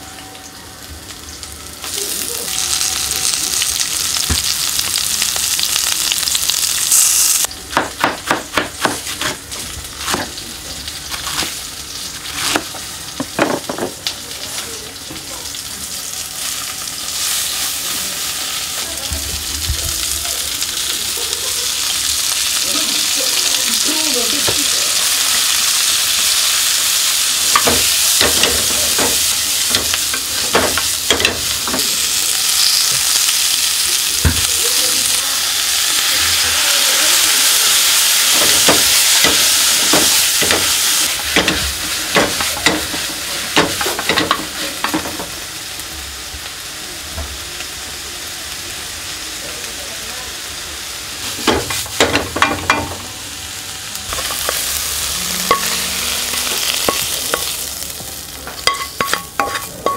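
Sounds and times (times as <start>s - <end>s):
vegetables sizzling in a frying pan: 0.0s - 59.9s.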